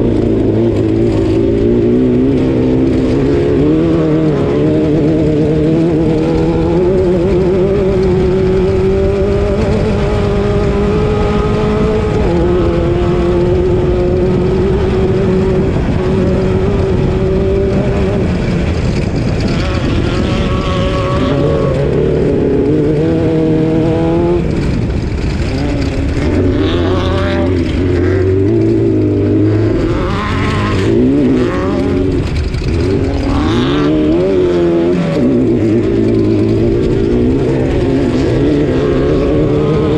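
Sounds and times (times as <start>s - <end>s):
race car engine at high revs: 0.0s - 39.9s
steady rumbling noise: 0.0s - 39.9s.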